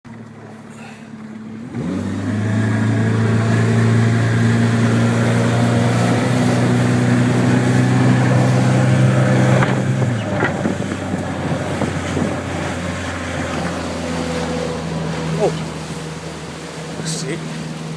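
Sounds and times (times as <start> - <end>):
motorboat engine running: 0.1 - 17.9
rushing water: 0.1 - 17.9.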